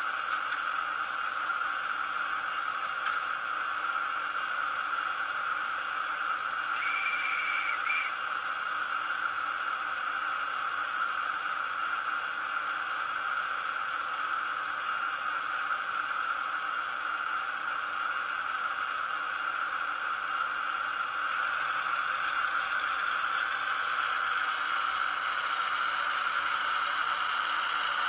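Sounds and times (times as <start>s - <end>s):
model locomotive diesel engine sound: 0.0s - 28.0s.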